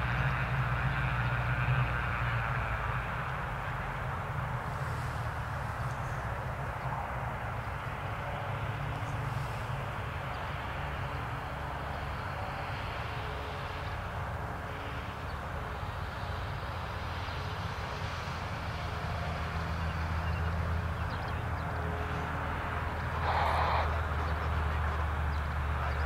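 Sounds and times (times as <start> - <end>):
turboprop engines at takeoff power: 0.0 - 26.0.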